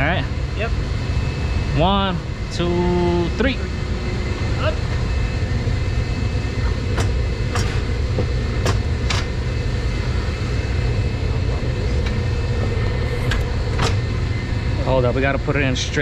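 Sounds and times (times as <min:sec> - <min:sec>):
machinery rumble: 0:00.0 - 0:16.0.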